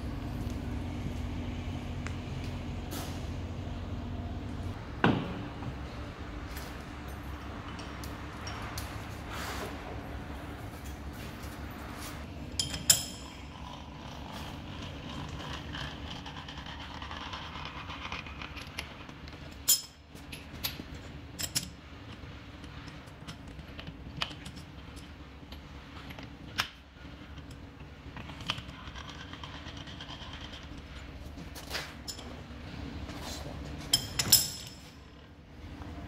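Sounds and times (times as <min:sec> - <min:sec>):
workshop hum: 0:00.0 - 0:36.0.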